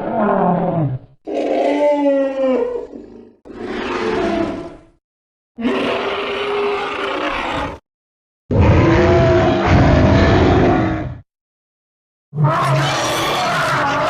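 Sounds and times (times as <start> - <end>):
growling animal calls: 0.0 - 5.0, 5.6 - 7.8, 8.5 - 11.2, 12.4 - 14.0.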